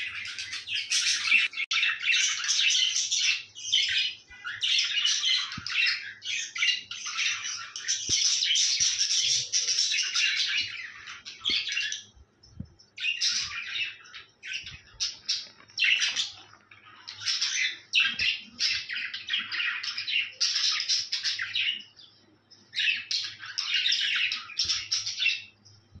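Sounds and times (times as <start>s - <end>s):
budgerigars chattering and chirping: 0.0s - 12.1s, 13.0s - 21.9s, 22.7s - 25.6s.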